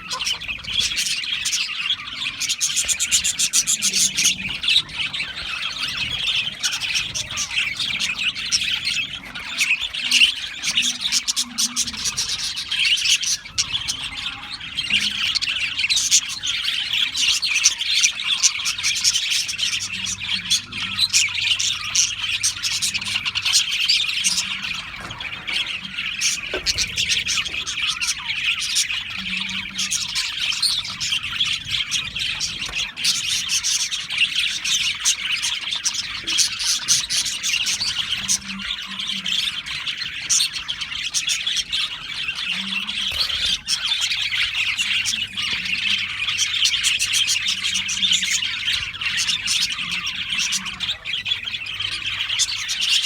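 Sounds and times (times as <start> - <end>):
budgerigars chirping: 0.0 - 53.0.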